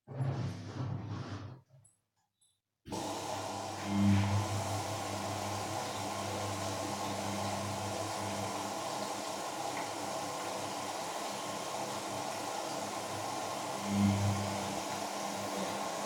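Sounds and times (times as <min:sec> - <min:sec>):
washing machine running: 0:02.9 - 0:16.0.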